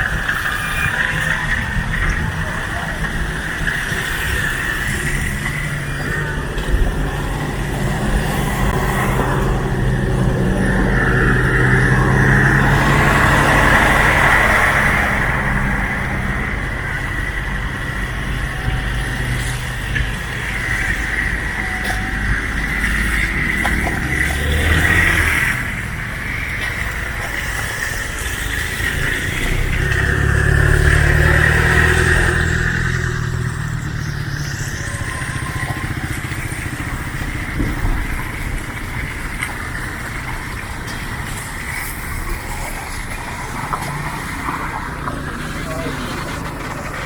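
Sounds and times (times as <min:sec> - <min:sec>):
background traffic noise: 0:00.0 - 0:47.0
vehicles passing: 0:00.0 - 0:47.0.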